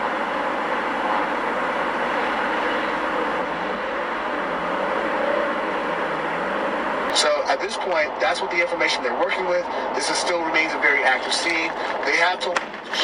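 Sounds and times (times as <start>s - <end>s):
steady vehicle rushing noise: 0.0s - 13.0s.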